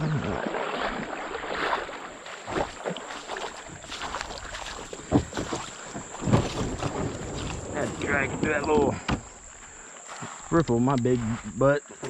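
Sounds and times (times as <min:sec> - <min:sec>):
water running: 0:00.0 - 0:11.9
kayak hull dragged through water: 0:00.0 - 0:12.0.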